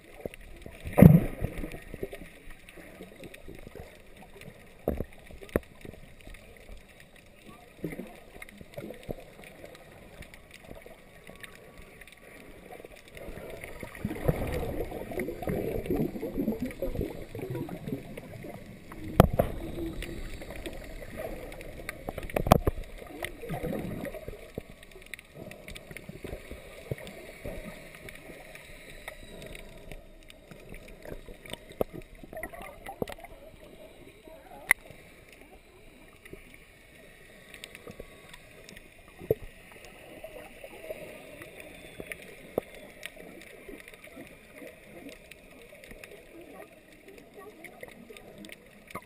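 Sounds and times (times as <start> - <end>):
muffled underwater water movement: 0.0 - 49.0.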